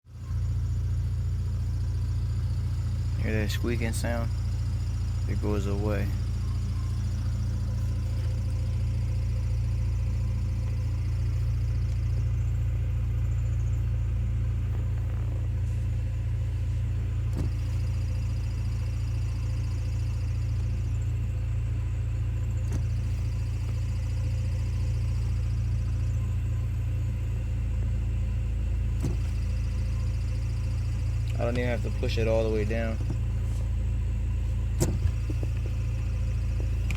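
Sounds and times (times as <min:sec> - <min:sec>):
car engine idling: 0:00.0 - 0:36.9
faint high transmission squeak: 0:00.1 - 0:36.9.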